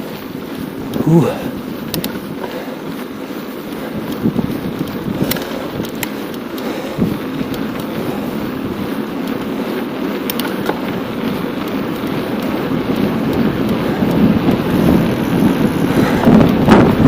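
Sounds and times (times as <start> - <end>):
bicycle clicks and rattles: 0.0 - 17.0
rush of tyres and air: 0.0 - 17.0
wind buffeting microphone: 0.0 - 17.0.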